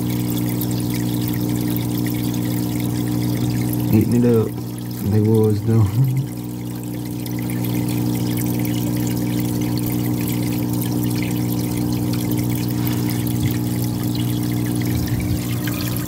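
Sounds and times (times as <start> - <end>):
filter pump humming: 0.0 - 16.0
water trickling and splashing: 0.0 - 16.0.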